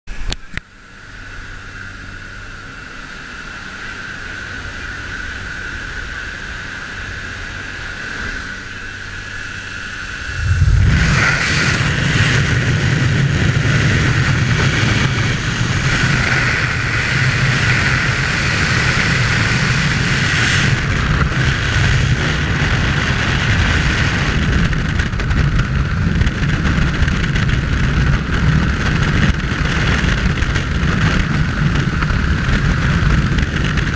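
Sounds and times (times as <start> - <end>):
plane engine and propeller drone: 0.1 - 33.9
freefall wind rushing over microphone: 0.2 - 33.9.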